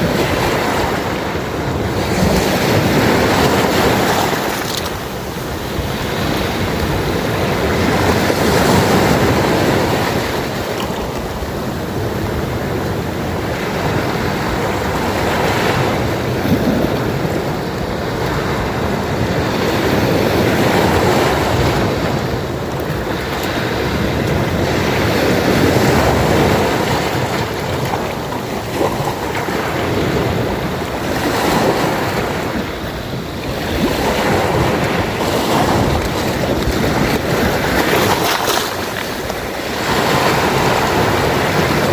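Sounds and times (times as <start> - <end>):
sea waves washing onto shore: 0.0 - 41.9.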